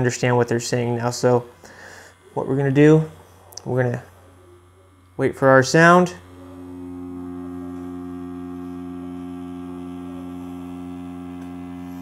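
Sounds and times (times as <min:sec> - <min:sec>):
tattoo machine humming: 0:00.0 - 0:12.0.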